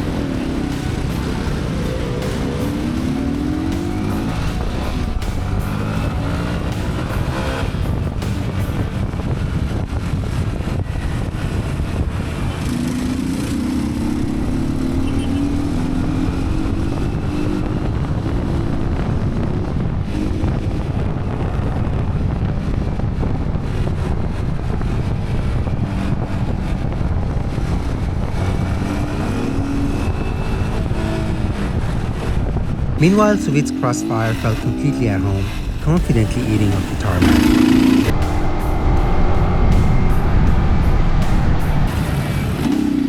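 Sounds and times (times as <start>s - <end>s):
wind noise on microphone: 0.0s - 13.2s, 13.9s - 33.0s, 36.9s - 42.6s
motorcycle engine accelerating: 0.0s - 43.0s.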